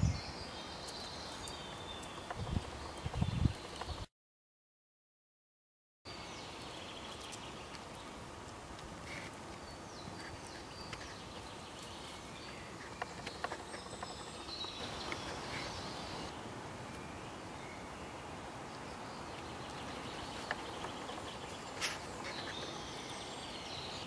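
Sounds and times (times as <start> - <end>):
small birds chirping: 0.0 - 4.1, 6.1 - 24.0.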